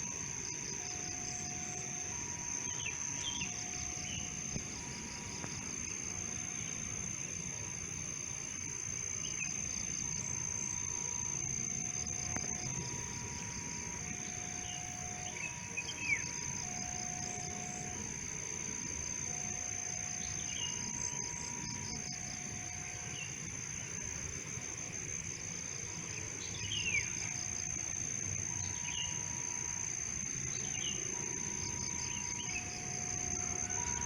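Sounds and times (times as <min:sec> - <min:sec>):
cricket chirping: 0:00.0 - 0:34.0
insects trilling: 0:00.0 - 0:34.0.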